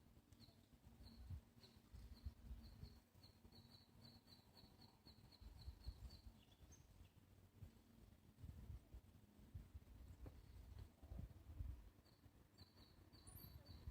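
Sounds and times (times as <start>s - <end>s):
faint bird song: 0.0s - 8.0s, 9.2s - 13.9s.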